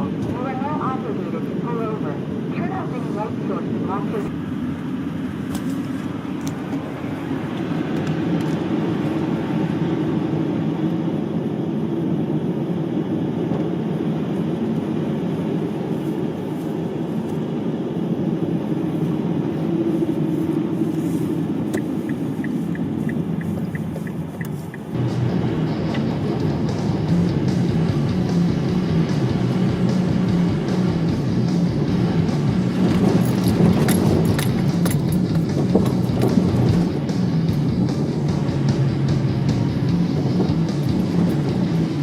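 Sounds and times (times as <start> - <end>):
loud low rumble: 0.0 - 42.0.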